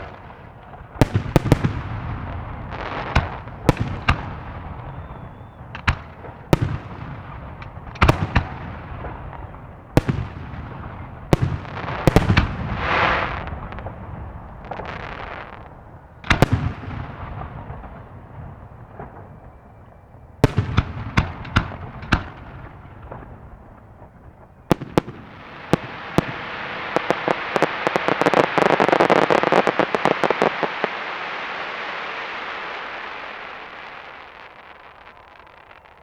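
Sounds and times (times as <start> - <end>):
sharp firework cracks: 0.0 - 19.8, 20.4 - 36.0
dense crackle of small pops: 0.0 - 36.0.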